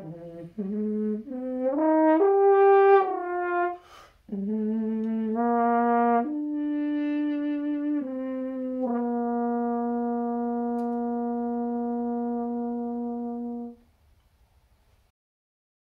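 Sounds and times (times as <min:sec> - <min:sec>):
natural horn playing notes: 0:00.0 - 0:13.8.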